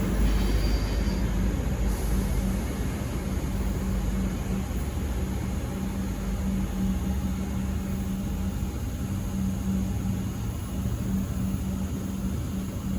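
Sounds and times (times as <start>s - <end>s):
diesel railcar engine drone: 0.0s - 12.9s.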